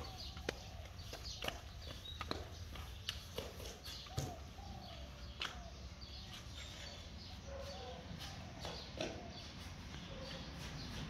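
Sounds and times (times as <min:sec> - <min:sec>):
toddler footsteps on rubber: 0:00.0 - 0:06.6, 0:07.2 - 0:11.0
bird chirps: 0:00.0 - 0:11.0.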